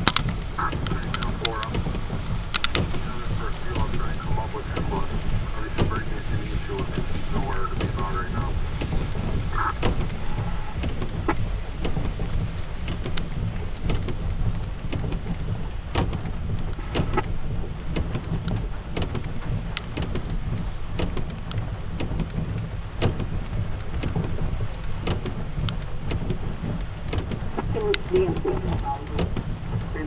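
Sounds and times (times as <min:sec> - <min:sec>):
low thunder rumble: 0:00.0 - 0:30.0
rain drops clicking: 0:00.0 - 0:30.0.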